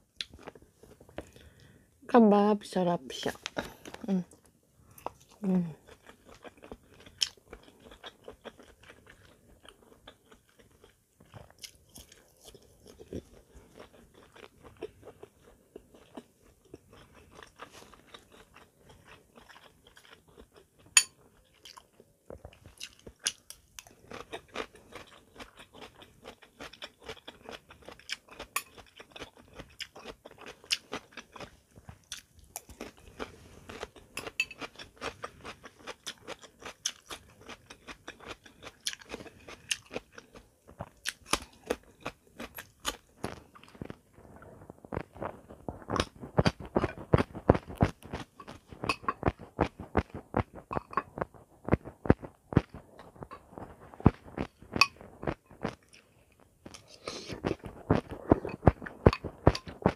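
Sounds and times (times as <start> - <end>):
person chewing crunchy food: 0.0 - 1.8, 3.3 - 59.9.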